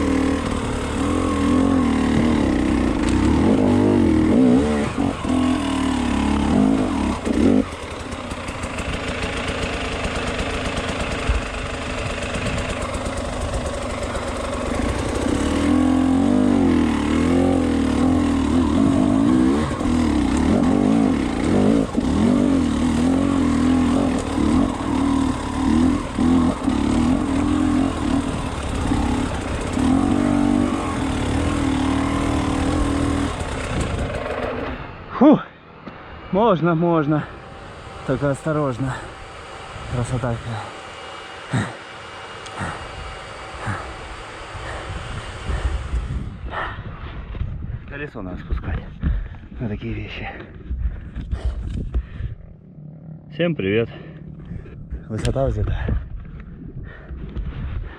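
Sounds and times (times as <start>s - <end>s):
motorcycle engine revving: 0.0s - 47.6s, 50.2s - 57.9s.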